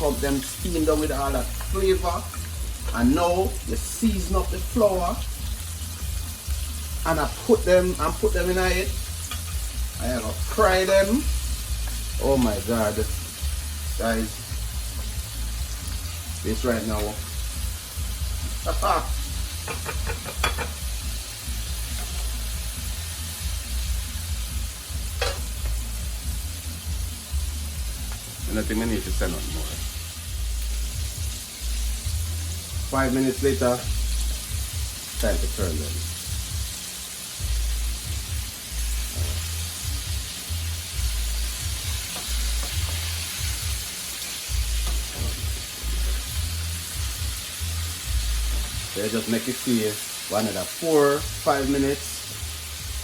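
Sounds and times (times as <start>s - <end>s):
music with heavy bass: 0.0s - 49.1s, 51.2s - 53.0s
chicken frying in hot oil: 0.0s - 53.0s.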